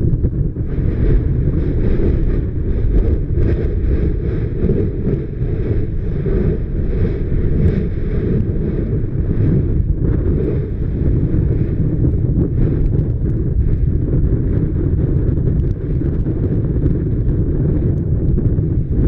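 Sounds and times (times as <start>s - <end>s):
volcano vent roaring: 0.0s - 19.0s
wind buffeting microphone: 0.0s - 19.0s.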